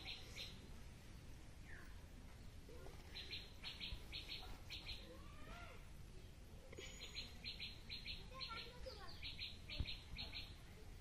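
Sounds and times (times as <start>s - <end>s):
birds chirping: 0.0s - 0.7s, 1.6s - 10.8s.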